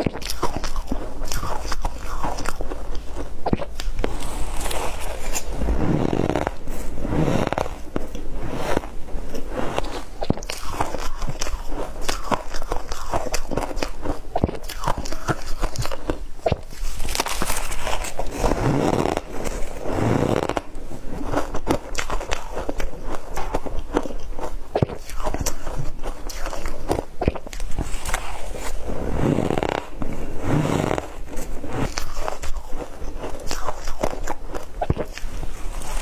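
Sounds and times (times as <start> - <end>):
person crunching ice: 0.0 - 36.0.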